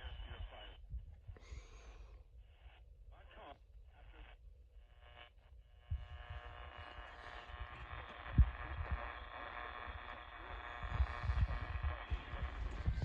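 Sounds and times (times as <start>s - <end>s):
radio buzzing hum: 0.0s - 13.0s.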